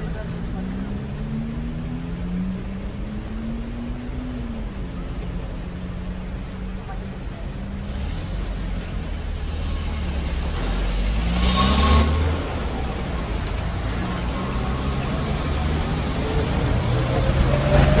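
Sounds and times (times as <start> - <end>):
loud rush of noise: 0.0 - 18.0
vehicle engine rumbling: 0.0 - 18.0.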